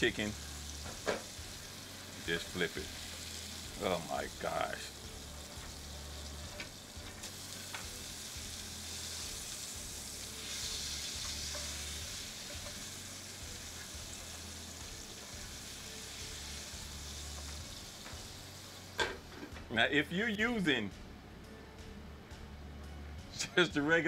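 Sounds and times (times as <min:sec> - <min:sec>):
meat sizzling in a skillet: 0:00.0 - 0:19.3.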